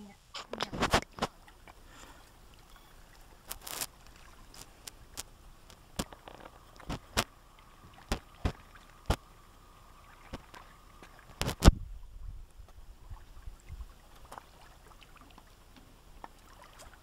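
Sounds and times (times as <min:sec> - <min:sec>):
low hiss: 0:00.0 - 0:17.0.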